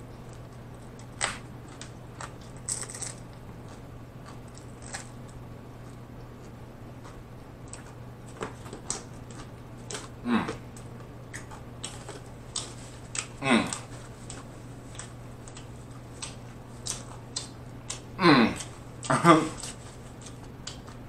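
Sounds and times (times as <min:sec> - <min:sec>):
man chewing with lip smacks: 0:00.1 - 0:21.0.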